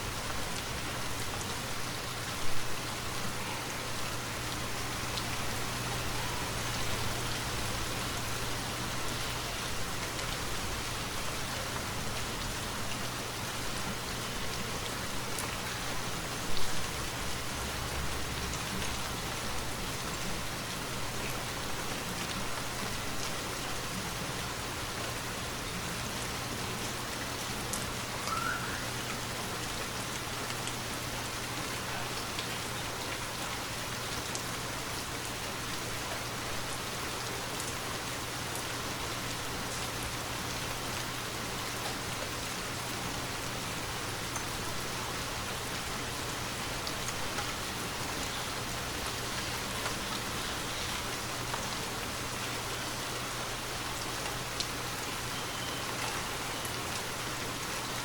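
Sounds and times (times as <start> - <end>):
rain falling on trees: 0.0 - 58.0.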